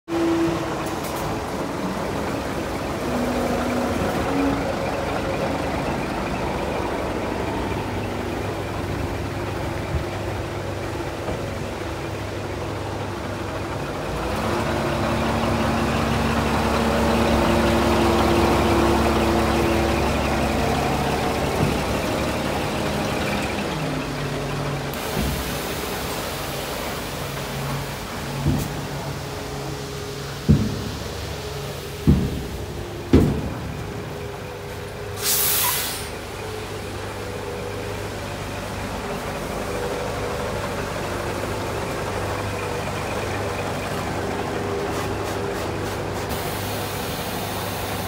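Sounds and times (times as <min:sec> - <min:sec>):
diesel truck engine idling: 0:00.1 - 0:48.0.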